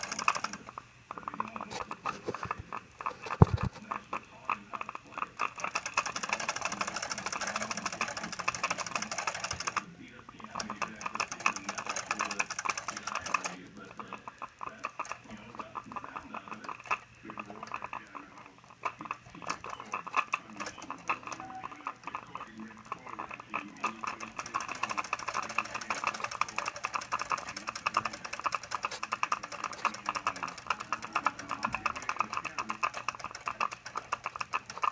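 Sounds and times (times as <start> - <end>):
model steam engine clattering: 0.0 - 34.9.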